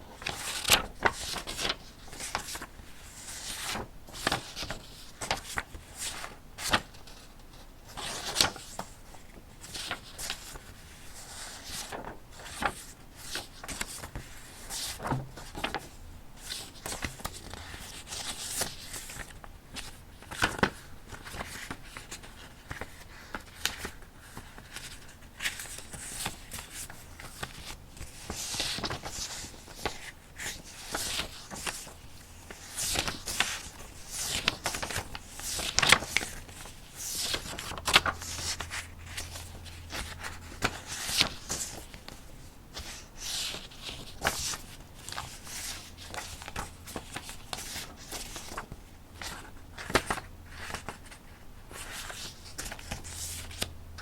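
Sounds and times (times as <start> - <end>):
paper rustling and crinkling: 0.0 - 53.8.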